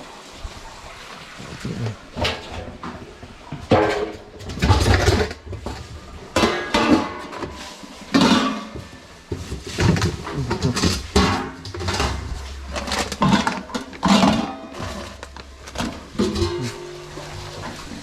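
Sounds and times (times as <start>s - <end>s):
metal cookware clanking and scraping: 3.6s - 18.0s.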